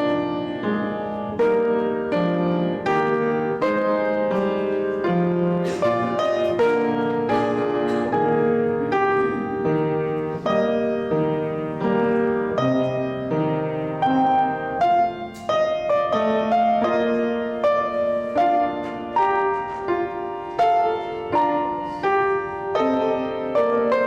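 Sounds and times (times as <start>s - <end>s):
piano playing slow chords: 0.0s - 24.0s.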